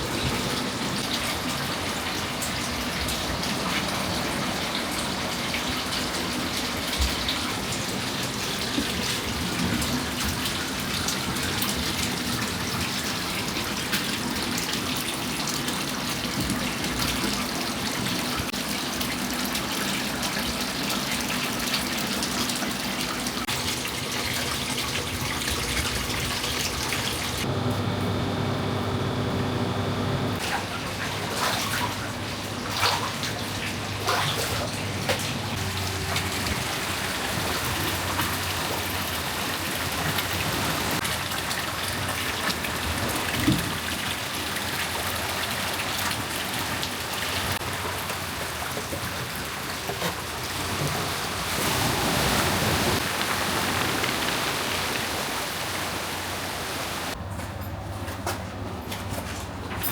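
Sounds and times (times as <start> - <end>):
water running and splashing: 0.0 - 27.5, 30.4 - 57.2.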